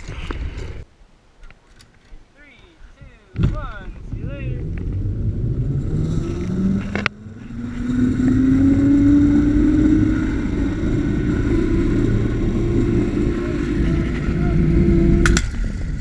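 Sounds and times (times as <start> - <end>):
low rushing noise: 2.3 - 16.0.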